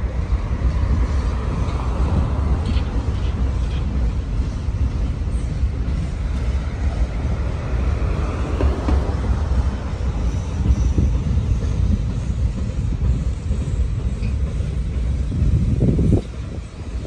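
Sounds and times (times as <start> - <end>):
freight train rumbling past: 0.0 - 17.0
steel wheels rattling on rails: 0.0 - 17.0.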